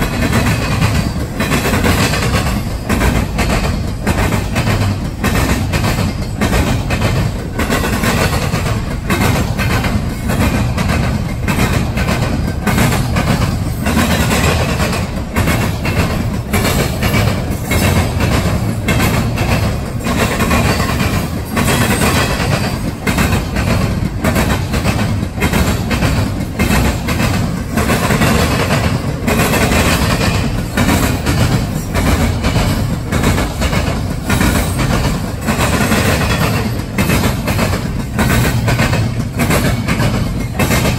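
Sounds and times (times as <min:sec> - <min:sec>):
train wheels rumbling on rails: 0:00.0 - 0:40.9
wheels clicking over rail joints: 0:00.0 - 0:40.9.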